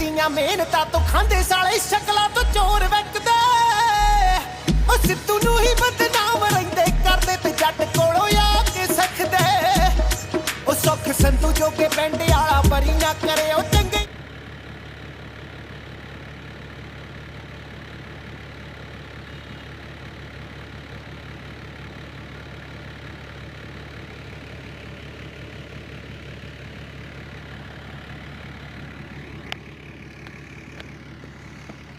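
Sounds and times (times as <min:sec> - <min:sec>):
low engine hum: 0:00.0 - 0:31.9.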